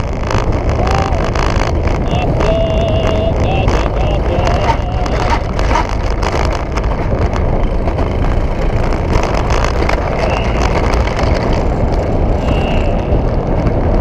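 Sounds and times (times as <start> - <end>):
wheels rumbling on metal rail: 0.0 - 14.0
wind rush on camera: 0.0 - 14.0.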